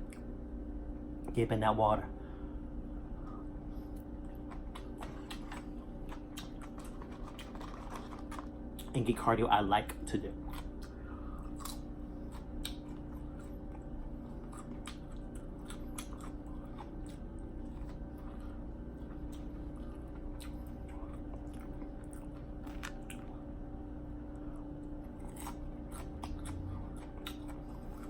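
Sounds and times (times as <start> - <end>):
steady low hum: 0.0 - 28.0
person chewing food: 3.8 - 8.9, 9.9 - 23.6, 24.3 - 28.0.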